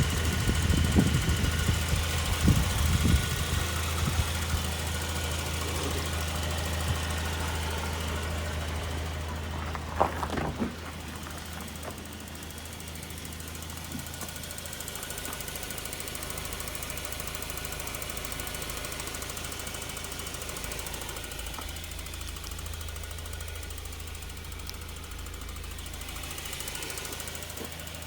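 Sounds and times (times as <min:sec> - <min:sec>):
petrol engine idling: 0:00.0 - 0:28.0.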